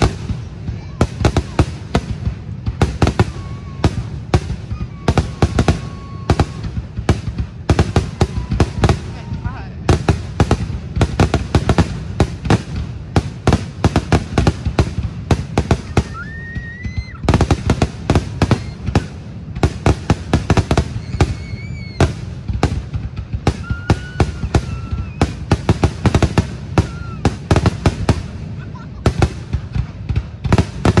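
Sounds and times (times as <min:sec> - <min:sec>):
fireworks bangs: 0:00.0 - 0:31.0
whistling fireworks: 0:00.0 - 0:31.0.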